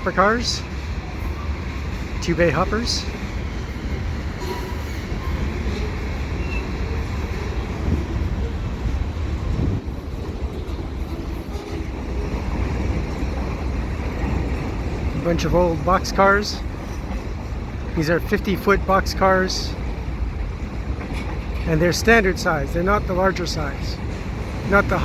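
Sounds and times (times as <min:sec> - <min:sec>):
freight train rumbling on rails: 0:00.0 - 0:25.0.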